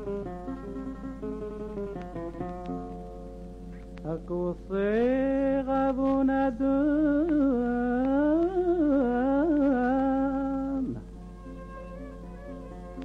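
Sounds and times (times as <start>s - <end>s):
quiet instrumental accompaniment: 0.0s - 13.0s.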